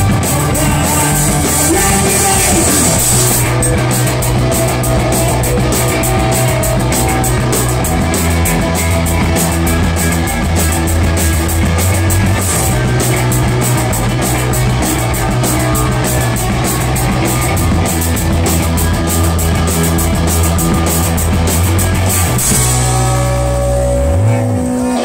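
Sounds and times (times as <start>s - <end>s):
electric bass line: 0.0s - 25.0s
live rock band playing: 0.0s - 25.0s.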